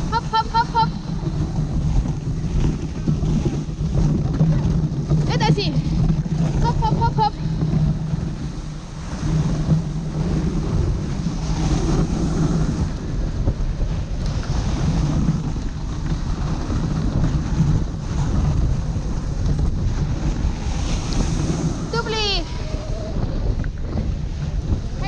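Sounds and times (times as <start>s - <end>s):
sled runners sliding over snow: 0.0s - 25.0s
wind on microphone: 0.0s - 25.0s.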